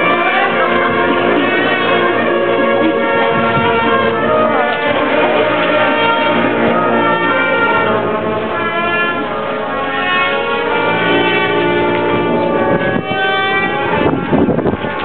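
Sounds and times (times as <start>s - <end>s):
orchestral brass music: 0.0s - 15.0s.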